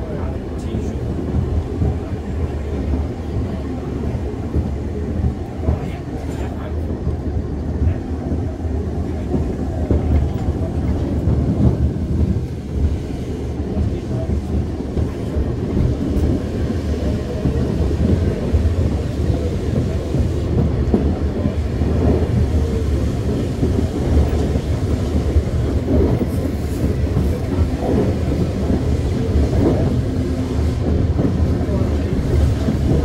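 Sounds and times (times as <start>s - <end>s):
tram rattles: 0.0s - 33.0s
tram rumbling on track: 0.0s - 33.0s.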